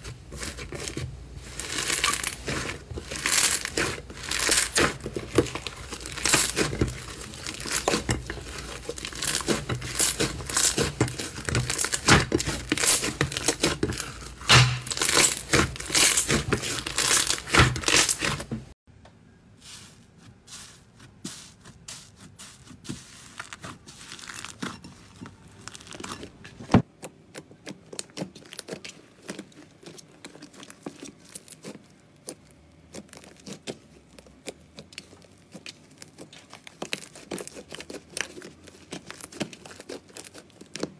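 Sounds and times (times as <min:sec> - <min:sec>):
slime squishing: 0:00.0 - 0:18.7, 0:19.6 - 0:40.9
slime crackling and popping: 0:00.3 - 0:18.5, 0:22.9 - 0:40.9.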